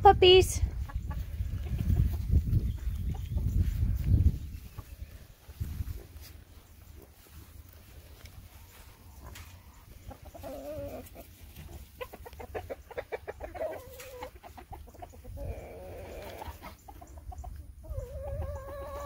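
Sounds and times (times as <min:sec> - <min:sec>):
chickens clucking: 0:00.4 - 0:19.0.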